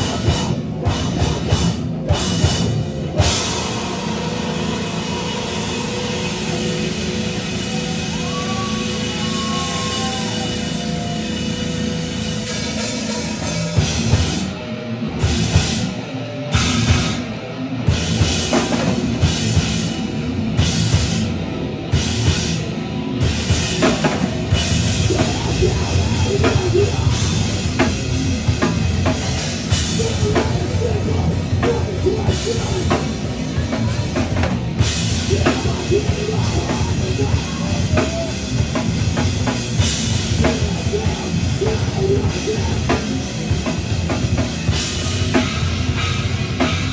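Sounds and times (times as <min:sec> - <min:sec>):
distorted electric guitars: 0:00.0 - 0:46.9
drum kit: 0:00.0 - 0:46.9.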